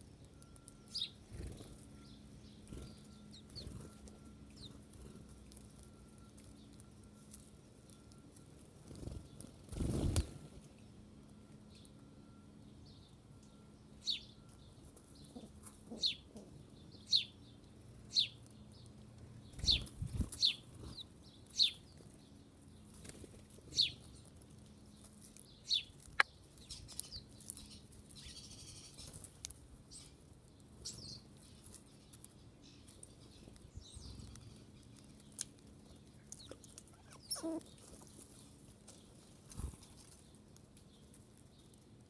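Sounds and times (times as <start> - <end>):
small bird chirping: 0.0 - 42.0.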